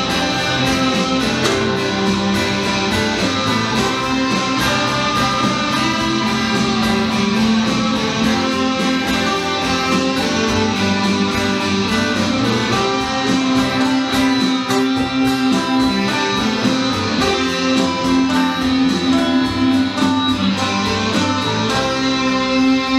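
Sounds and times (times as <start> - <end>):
acoustic guitar: 0.0 - 22.9
electric bass guitar: 0.0 - 22.9
strummed electric guitar: 0.0 - 22.9.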